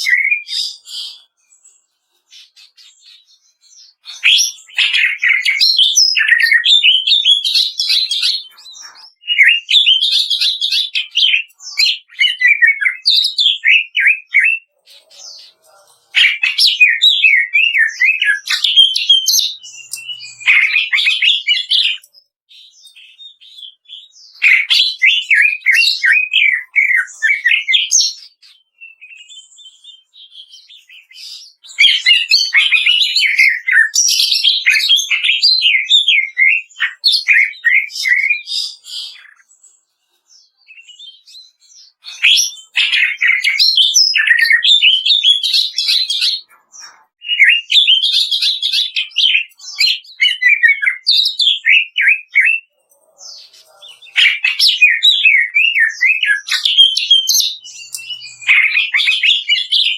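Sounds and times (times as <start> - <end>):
bird singing crackling chatter: 0.0 - 29.8, 30.4 - 59.9.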